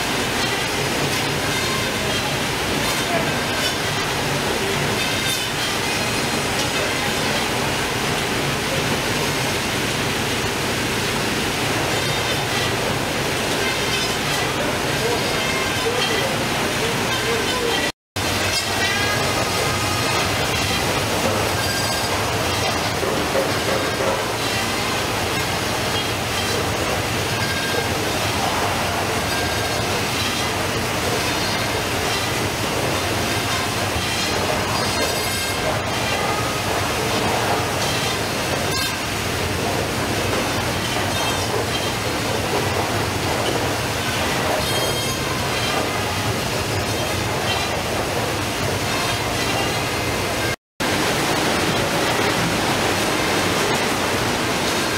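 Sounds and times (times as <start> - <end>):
fish processing machine running: 0.0 - 54.9.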